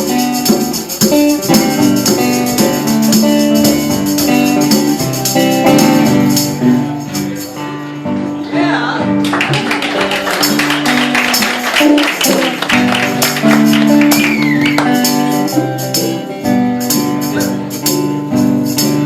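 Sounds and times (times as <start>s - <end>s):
tambourine beat: 0.0s - 7.6s, 10.3s - 19.0s
gospel band playing: 0.0s - 19.0s.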